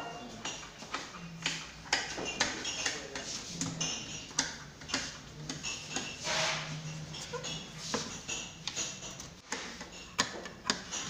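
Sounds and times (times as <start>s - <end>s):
plates and cutlery clinking: 0.0s - 11.0s.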